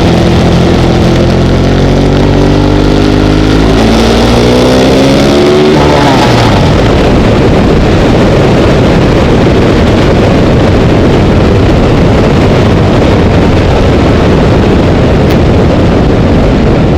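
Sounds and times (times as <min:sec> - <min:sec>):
wind rushing on microphone: 0:00.0 - 0:16.9.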